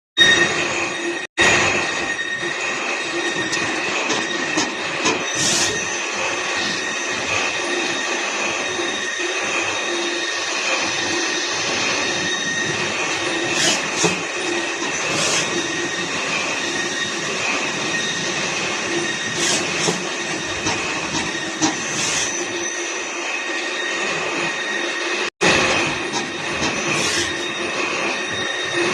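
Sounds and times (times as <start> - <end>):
cnc machine whine: 0.2 - 28.9.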